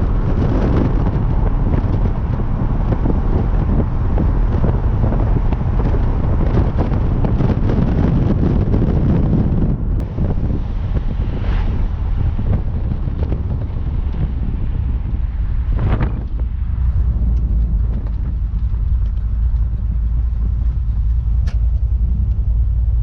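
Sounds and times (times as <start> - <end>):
truck engine running: 0.0 - 23.0
wind buffeting microphone: 0.0 - 23.0.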